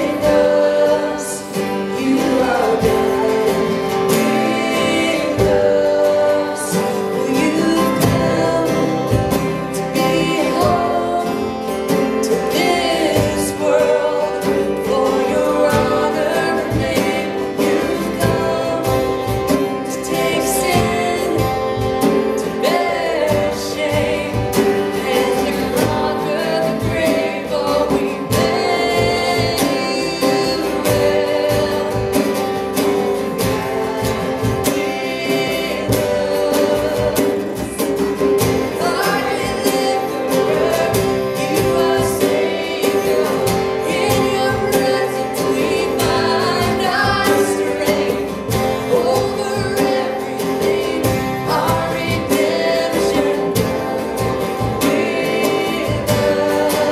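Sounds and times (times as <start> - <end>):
instrumental accompaniment: 0.0 - 56.9
woman singing into a microphone: 0.0 - 56.9.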